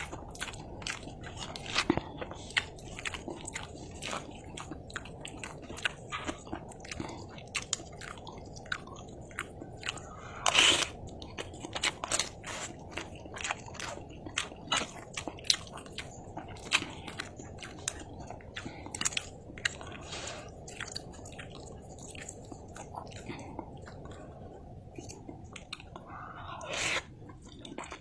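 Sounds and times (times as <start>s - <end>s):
person chewing noodles: 0.0s - 28.0s.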